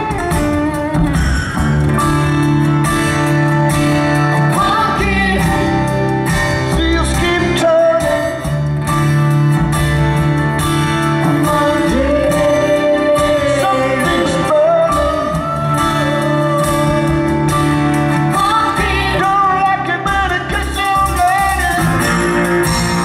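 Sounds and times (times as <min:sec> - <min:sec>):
amplified live band music: 0:00.0 - 0:23.0
electric guitar: 0:00.0 - 0:23.0.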